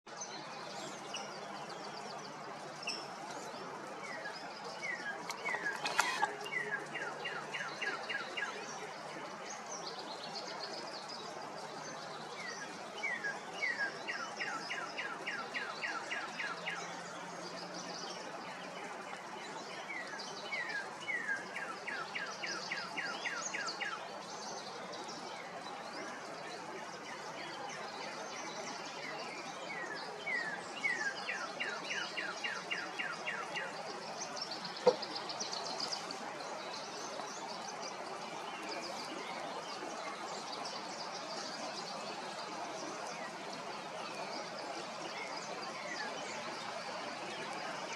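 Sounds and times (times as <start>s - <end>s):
songbird singing: 0.1s - 26.4s, 27.0s - 47.9s.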